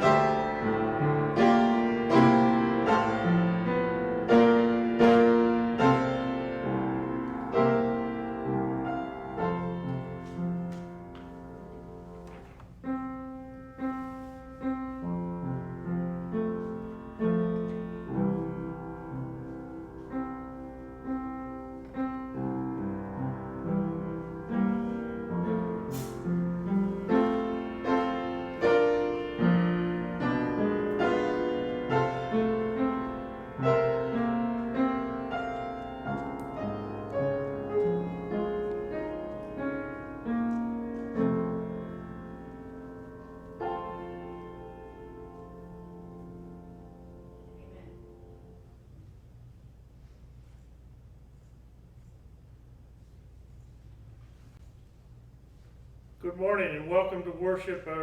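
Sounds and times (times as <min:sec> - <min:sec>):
slow piano piece: 0:00.0 - 0:58.0.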